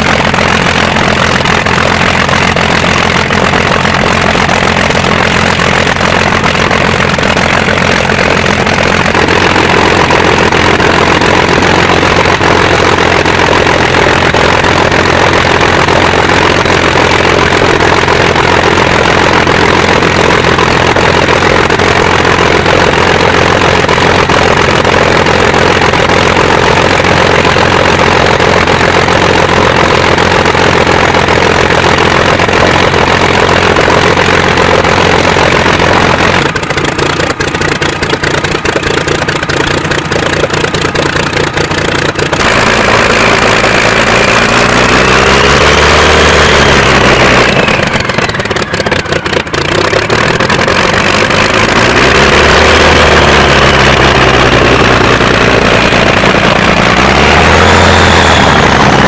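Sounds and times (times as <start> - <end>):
piston aircraft engine idling: 0.0 - 59.0.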